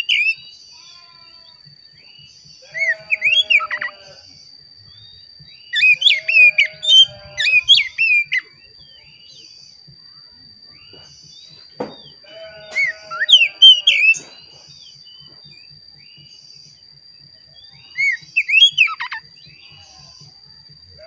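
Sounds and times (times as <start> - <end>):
bird singing whistled notes: 0.0 - 21.0
faint steady high tone: 0.0 - 21.0.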